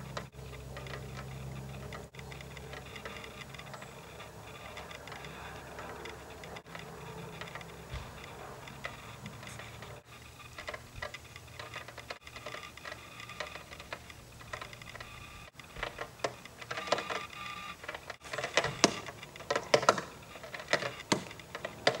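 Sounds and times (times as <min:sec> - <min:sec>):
low hum: 0:00.0 - 0:22.0
mechanical ticking and clicking: 0:00.0 - 0:22.0.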